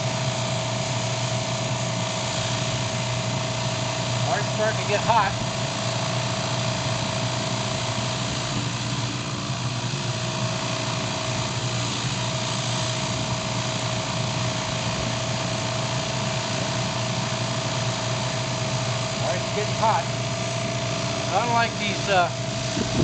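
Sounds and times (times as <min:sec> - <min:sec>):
burner hissing: 0:00.0 - 0:23.0
pressure washer running: 0:00.0 - 0:23.0.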